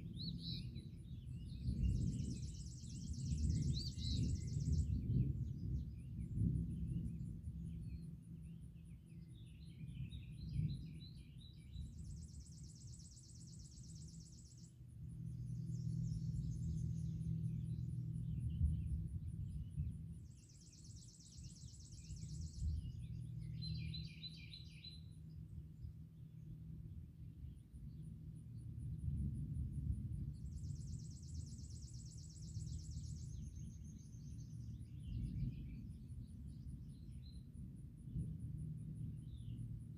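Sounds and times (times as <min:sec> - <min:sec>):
songbirds trilling and chirping: 0:00.0 - 0:29.1, 0:30.2 - 0:39.9.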